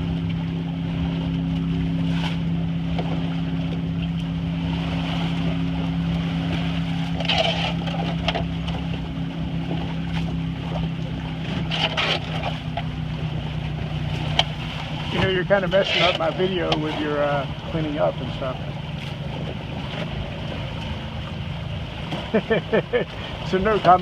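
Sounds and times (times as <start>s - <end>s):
knocking and splashing: 0.0s - 23.1s
boat engine droning: 0.0s - 24.0s
water noise: 0.0s - 24.0s
wind: 0.0s - 24.0s.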